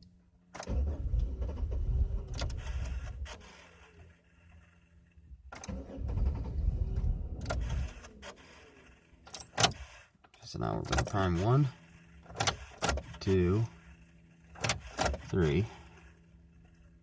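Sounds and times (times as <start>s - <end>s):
starter motor cranking engine: 0.6s - 4.8s, 5.5s - 17.0s.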